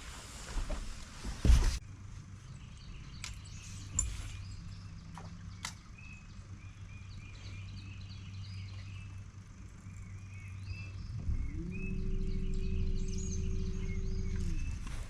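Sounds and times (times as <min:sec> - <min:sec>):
steady low hum: 0:00.0 - 0:15.0
birds chirping: 0:01.4 - 0:15.0.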